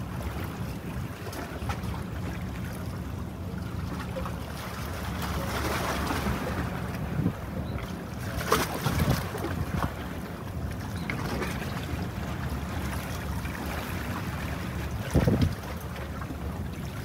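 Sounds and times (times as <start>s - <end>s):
boat engine rumble: 0.0s - 17.0s
water noise: 0.0s - 17.0s
wind: 0.0s - 17.0s.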